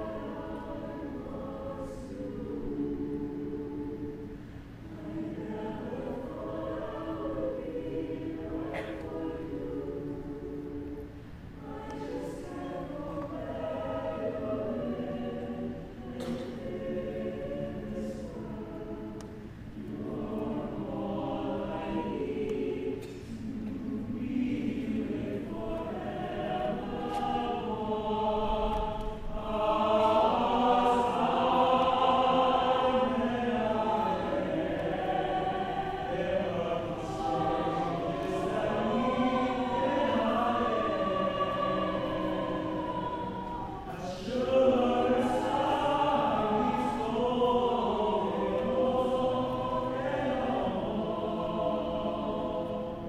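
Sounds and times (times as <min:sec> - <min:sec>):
choir singing in harmony: 0:00.0 - 0:53.0.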